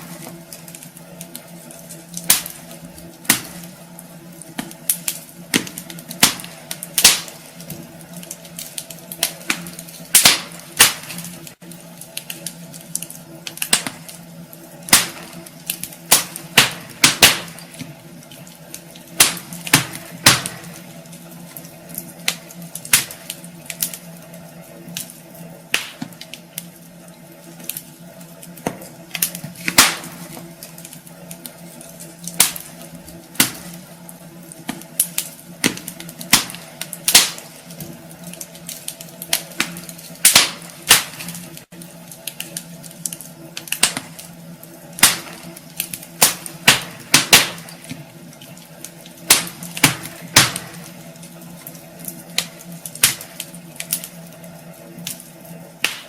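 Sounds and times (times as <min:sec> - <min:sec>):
steady hiss: 0:00.0 - 0:56.0
wood fire crackling and popping: 0:00.0 - 0:56.0.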